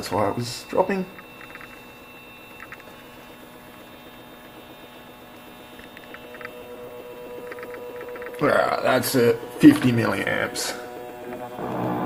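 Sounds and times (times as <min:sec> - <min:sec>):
stepper motor humming: 0:00.0 - 0:12.0.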